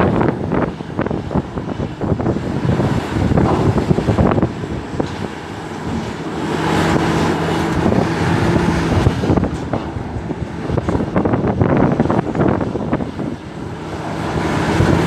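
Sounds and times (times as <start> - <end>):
excavator diesel engine working: 0.0 - 15.0
wind buffeting microphone: 0.0 - 15.0.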